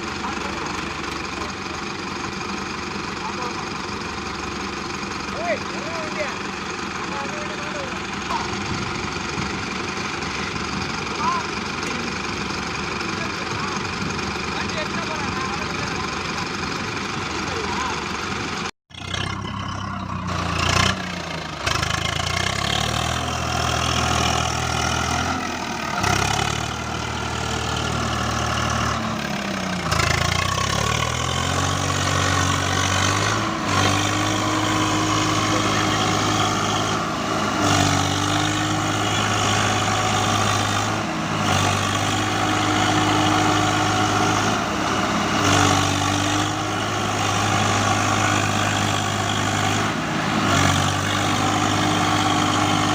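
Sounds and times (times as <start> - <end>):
tractor diesel engines straining: 0.0 - 52.9.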